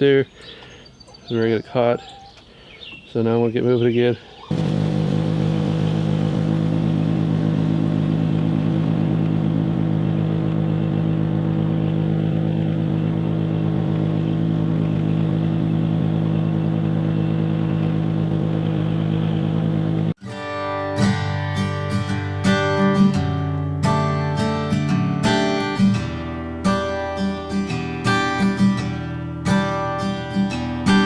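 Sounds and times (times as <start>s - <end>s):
lawn mower engine running: 4.5s - 31.0s.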